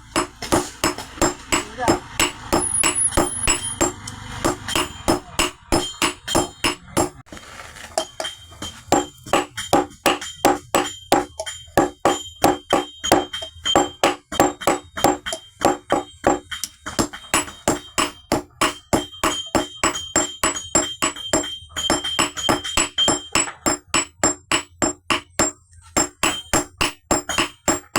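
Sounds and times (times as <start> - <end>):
hammer striking steel on anvil: 0.0 - 7.3, 8.0 - 27.9.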